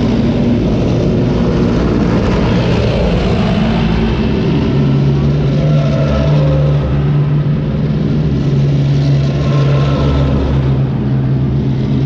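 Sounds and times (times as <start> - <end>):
armoured vehicle engines droning: 0.0 - 12.0.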